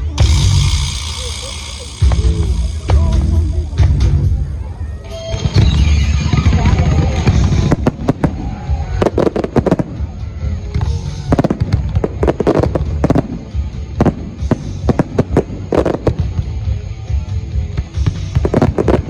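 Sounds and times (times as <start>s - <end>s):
fireworks banging: 0.0s - 4.6s, 5.3s - 16.8s, 17.7s - 19.0s
music with low bass: 0.0s - 19.0s.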